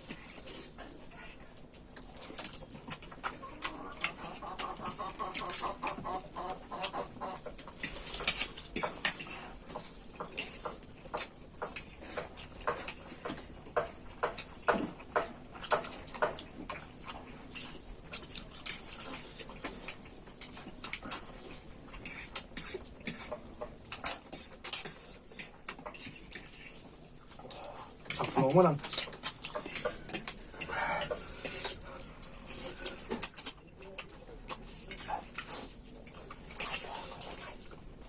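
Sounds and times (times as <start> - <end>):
noodles slurped and chewed: 0.0 - 38.0.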